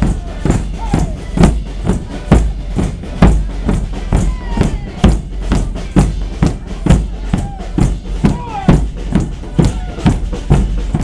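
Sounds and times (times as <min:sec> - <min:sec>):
bass drums beating march: 0:00.0 - 0:11.0
snare drums: 0:00.0 - 0:11.0.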